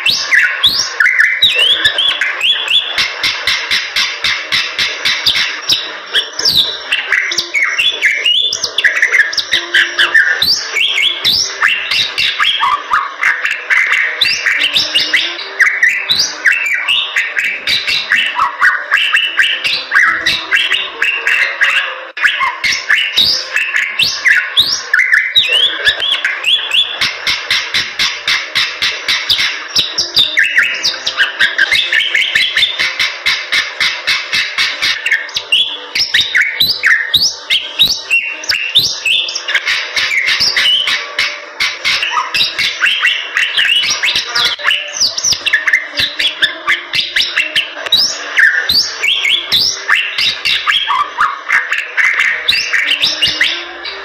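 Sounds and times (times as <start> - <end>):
bird chirping and whistling: 0.0 - 54.0.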